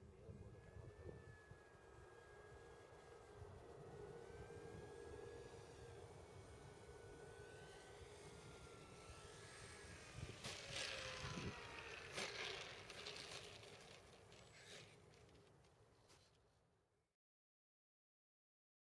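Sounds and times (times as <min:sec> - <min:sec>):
model plane motor whining: 0:00.0 - 0:16.3.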